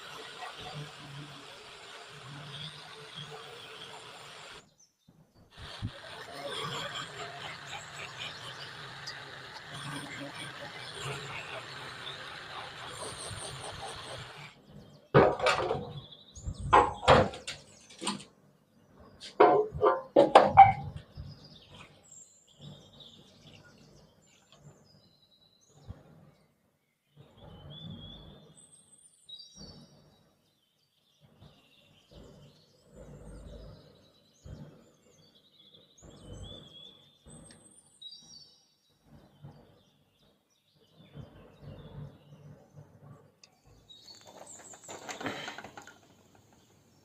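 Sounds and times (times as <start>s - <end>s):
faint birdsong chirping: 0.0s - 19.4s, 20.0s - 47.0s.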